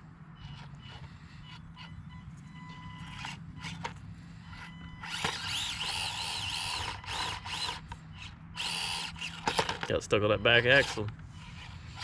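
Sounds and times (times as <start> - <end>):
small electric motor whining: 0.4 - 9.9, 10.5 - 12.0.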